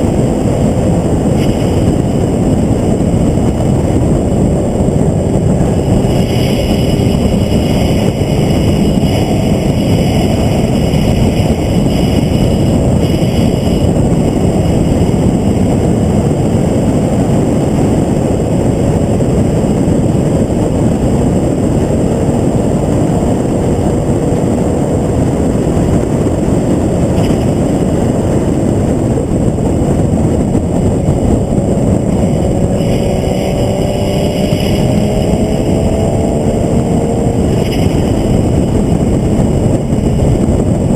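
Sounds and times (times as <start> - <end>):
race car engine: 0.0 - 40.9
wind and road rush: 0.0 - 40.9.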